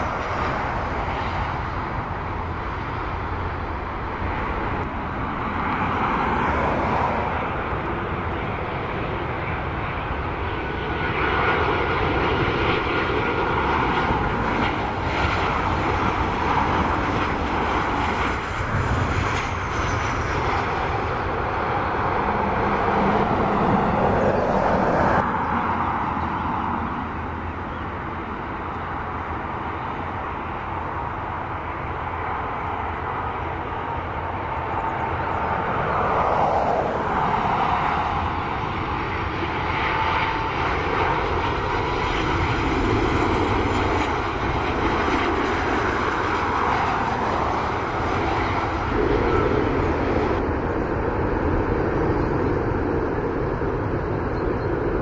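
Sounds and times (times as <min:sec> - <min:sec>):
high fan whine: 0:00.0 - 0:55.0
jet airliner engines: 0:00.0 - 0:55.0.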